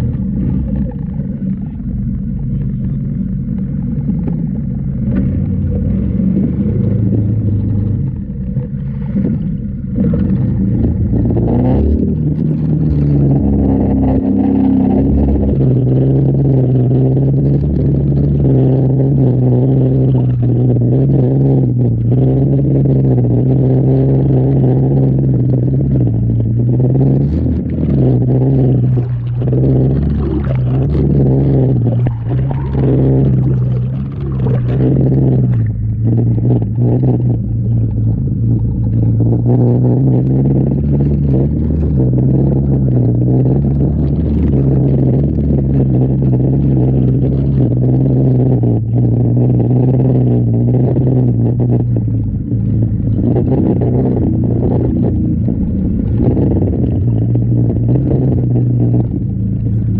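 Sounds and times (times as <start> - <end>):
small boat engine running: 0.0 - 59.9
water splashing around hull: 0.0 - 59.9.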